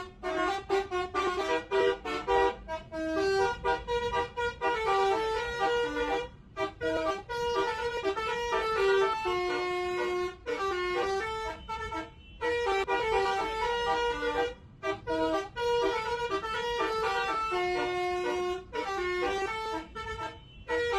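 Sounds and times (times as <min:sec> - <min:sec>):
air horns playing a tune: 0:00.0 - 0:20.9.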